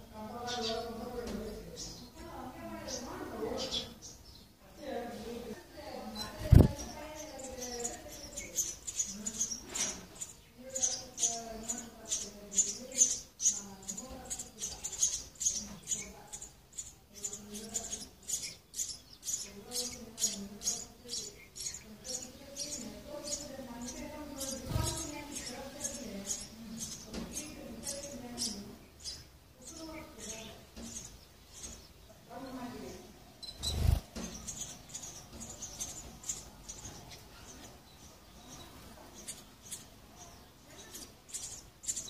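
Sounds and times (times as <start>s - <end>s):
nestlings cheeping: 6.0s - 32.0s, 33.3s - 42.0s.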